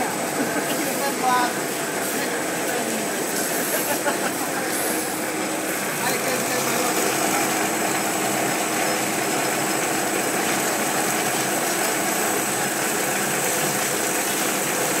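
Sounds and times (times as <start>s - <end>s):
machine hum and whir: 0.0s - 15.0s.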